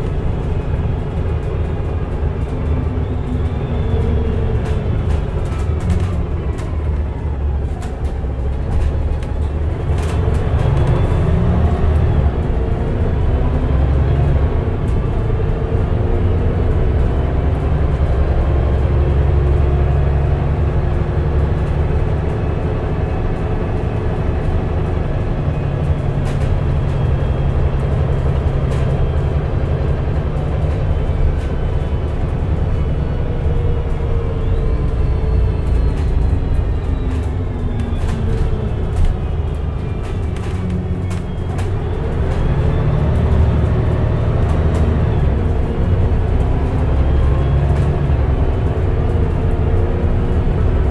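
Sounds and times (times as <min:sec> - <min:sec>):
bus engine rumble: 0:00.0 - 0:50.9.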